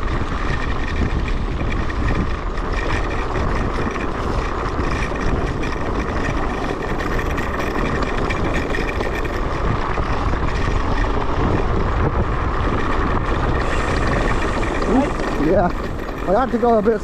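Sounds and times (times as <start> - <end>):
tyres rumbling and rattling: 0.0 - 17.0
wind on microphone: 0.0 - 17.0.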